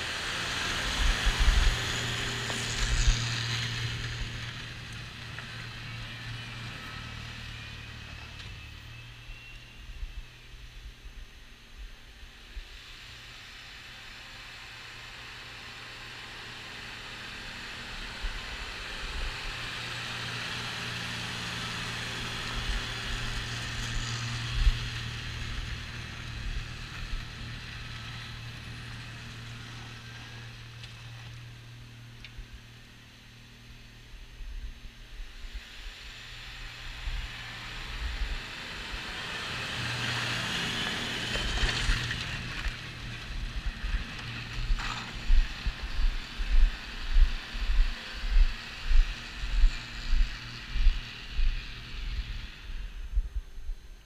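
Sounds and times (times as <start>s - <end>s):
snowblower whoosh: 0.0s - 9.7s, 12.5s - 31.9s, 35.0s - 53.2s
tractor engine hum: 0.0s - 54.0s.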